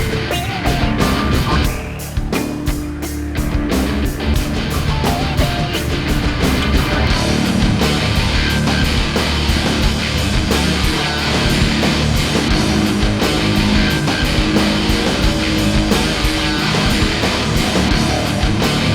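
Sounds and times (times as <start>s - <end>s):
distorted electric guitar: 0.0s - 18.9s
steady drum beat: 0.0s - 18.9s.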